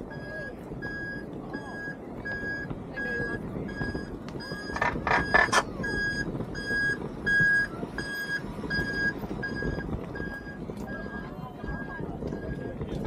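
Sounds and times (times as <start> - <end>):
crowd murmur: 0.0 - 13.0
reversing alarm beeping: 0.0 - 13.0.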